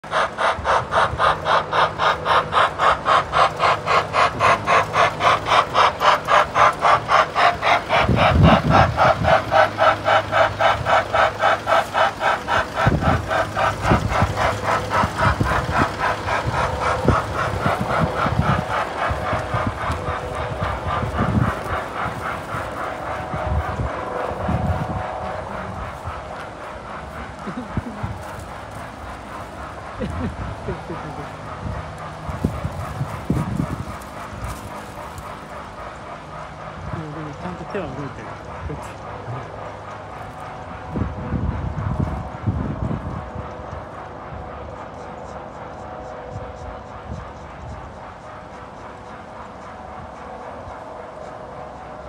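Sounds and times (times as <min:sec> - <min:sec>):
road train chuffing: 0:00.0 - 0:52.0.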